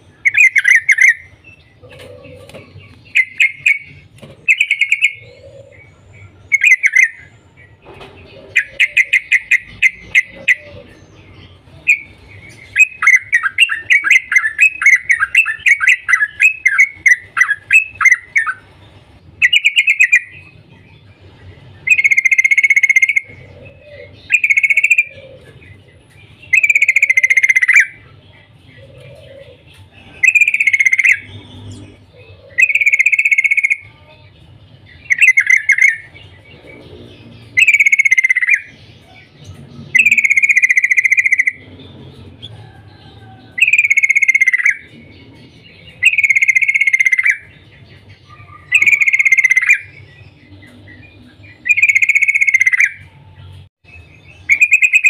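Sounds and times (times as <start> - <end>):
bulbul calling: 0.0 - 18.7, 19.4 - 21.0, 21.8 - 25.8, 26.5 - 33.9, 34.9 - 53.2, 54.3 - 55.0.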